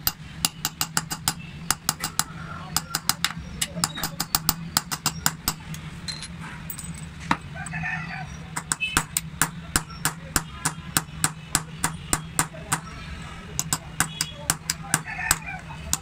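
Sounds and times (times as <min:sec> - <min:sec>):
hammer tapping metal punch: 0:00.0 - 0:06.4, 0:08.5 - 0:12.9, 0:13.6 - 0:16.0.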